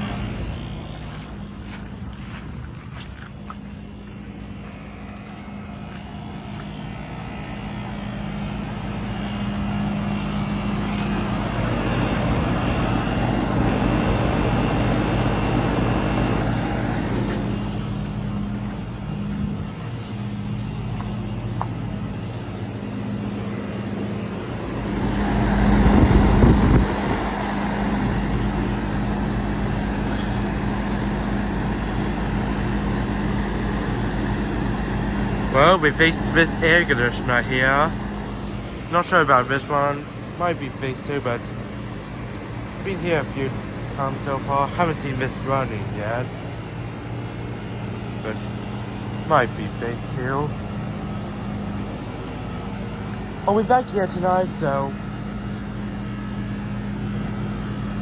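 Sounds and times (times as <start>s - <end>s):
air conditioner unit running: 0.0s - 58.0s.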